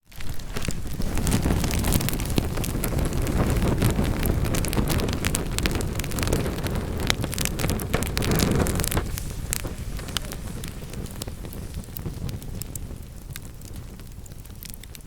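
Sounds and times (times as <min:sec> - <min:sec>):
fire crackling and popping: 0:00.0 - 0:15.0
fire flame rumble: 0:00.0 - 0:15.0.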